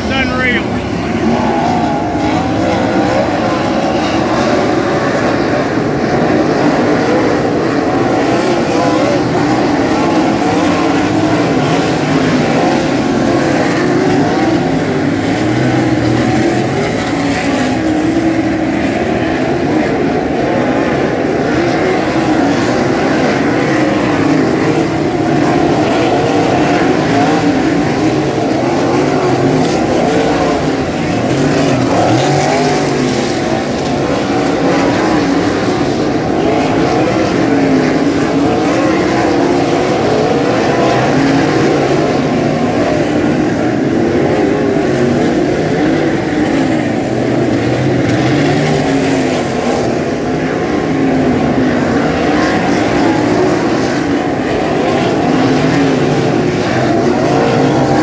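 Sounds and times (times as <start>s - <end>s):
racing car engines roaring: 0.0s - 58.0s.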